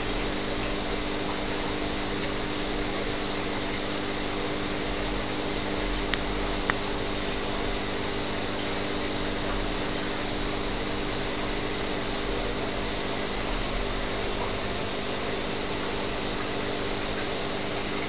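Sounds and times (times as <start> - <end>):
machine hum with hiss: 0.0 - 18.0.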